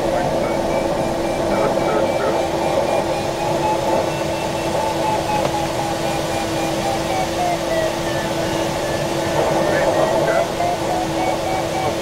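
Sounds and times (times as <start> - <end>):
airflow rushing in cockpit: 0.0 - 12.0
steady hum: 0.0 - 12.0
variometer beeps: 0.0 - 12.0.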